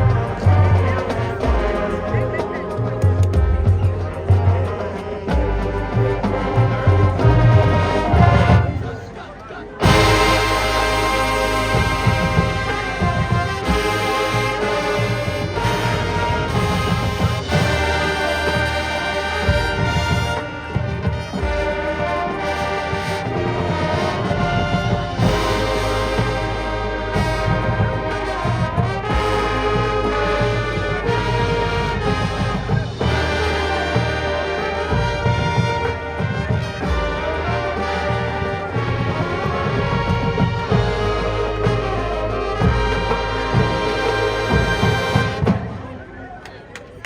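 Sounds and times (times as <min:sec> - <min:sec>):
bass drums and percussion: 0:00.0 - 0:09.0, 0:09.8 - 0:45.9
brass sustained chords: 0:00.0 - 0:46.4.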